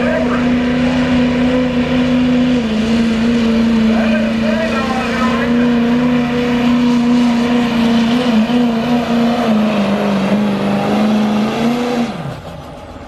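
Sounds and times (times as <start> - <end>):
diesel engine at full throttle: 0.0 - 13.0.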